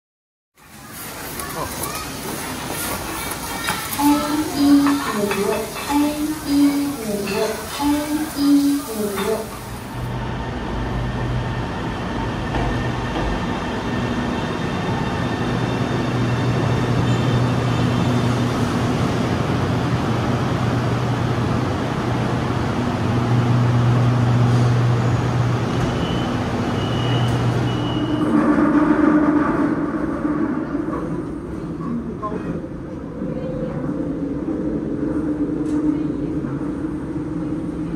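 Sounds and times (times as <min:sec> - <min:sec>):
subway wheels rumbling on rail: 0:00.6 - 0:37.9.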